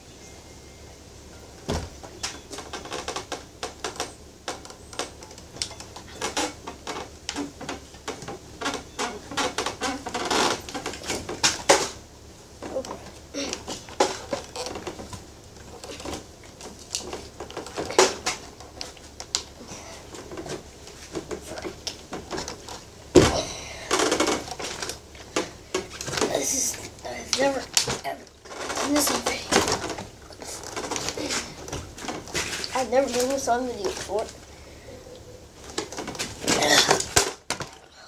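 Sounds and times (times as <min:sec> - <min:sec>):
objects clattering and knocking: 0:01.6 - 0:12.0, 0:12.6 - 0:34.4, 0:35.6 - 0:38.0.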